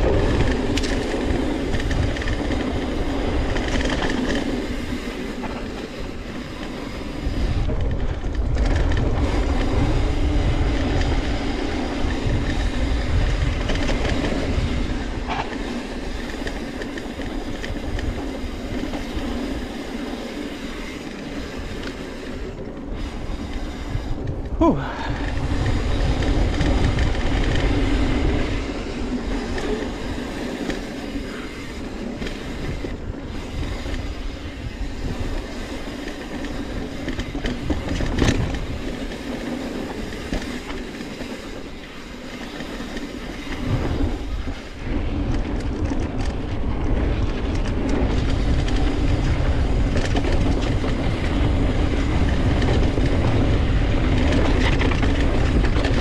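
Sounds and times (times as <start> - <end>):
bike chain and frame rattling: 0.0 - 56.0
knobby tyres on dirt: 0.0 - 56.0
wind rumble on microphone: 0.0 - 56.0.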